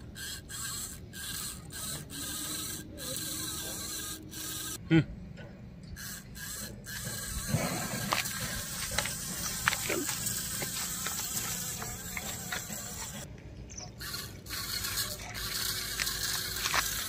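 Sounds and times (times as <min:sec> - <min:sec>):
small electric motor whirring: 0:00.0 - 0:04.8, 0:06.0 - 0:13.3, 0:14.0 - 0:17.0.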